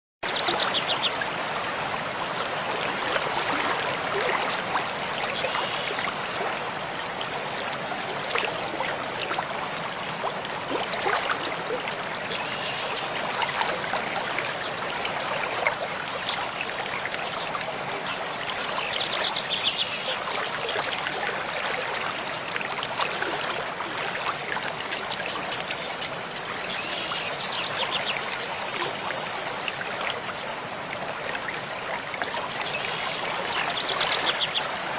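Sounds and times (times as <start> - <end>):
stream water rushing: 0.2 - 34.9.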